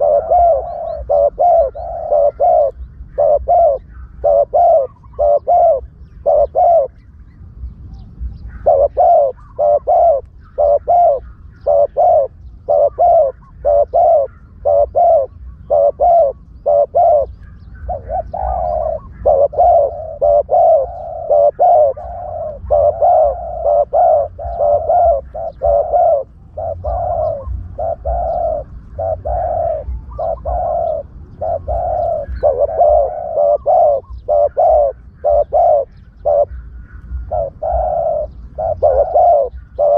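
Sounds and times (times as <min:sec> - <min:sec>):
doves cooing: 0:00.0 - 0:07.2, 0:08.0 - 0:39.9.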